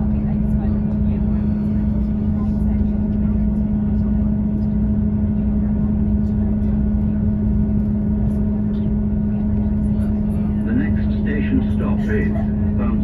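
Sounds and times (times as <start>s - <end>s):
train diesel engine drone: 0.0s - 13.0s.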